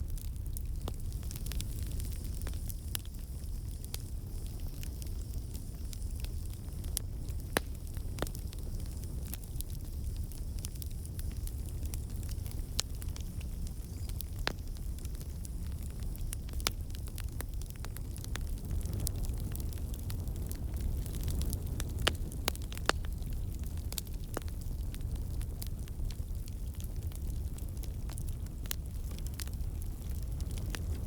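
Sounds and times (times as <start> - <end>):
campfire crackling: 0.0 - 31.0
low fire rumble: 0.0 - 31.0
sharp fire pops: 0.0 - 31.0.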